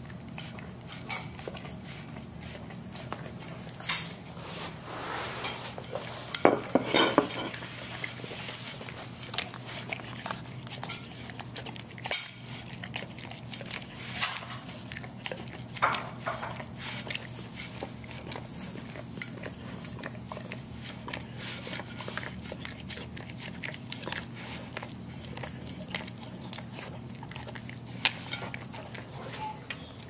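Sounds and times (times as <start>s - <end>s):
dog licking a ceramic plate: 0.0s - 4.4s, 5.6s - 30.0s.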